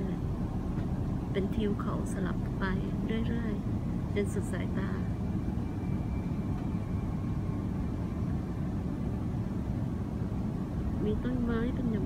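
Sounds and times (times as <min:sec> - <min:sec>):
airliner engine and rushing air: 0:00.0 - 0:12.0
faint high whine: 0:00.0 - 0:12.0.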